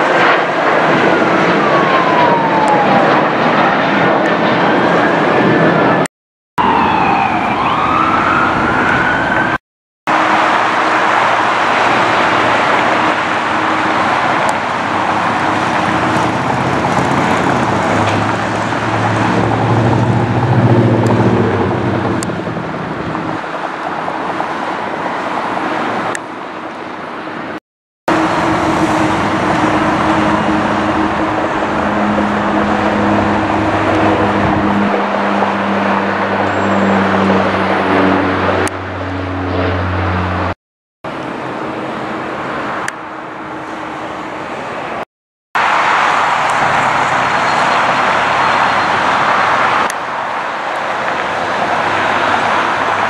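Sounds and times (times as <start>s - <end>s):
jet engine roar: 0.0s - 45.0s, 45.6s - 53.0s.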